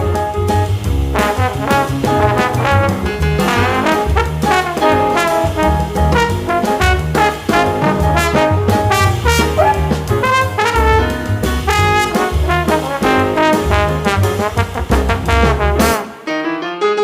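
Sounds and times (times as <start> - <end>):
jazzy brass band music: 0.0 - 16.5.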